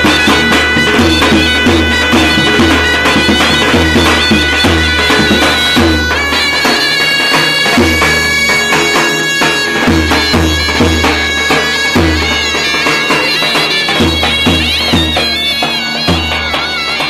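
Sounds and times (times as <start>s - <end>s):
zurna drone: 0.0s - 17.0s
zurna ornamented melody: 0.0s - 17.0s.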